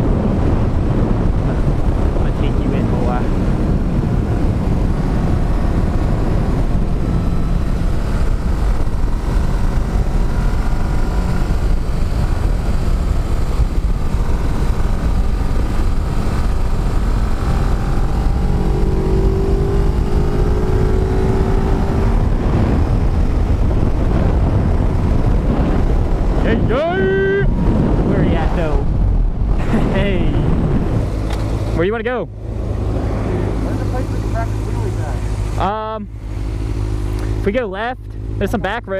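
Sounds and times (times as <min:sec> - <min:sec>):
motorcycle engine: 0:00.0 - 0:38.9
wind rushing on microphone: 0:00.0 - 0:38.9.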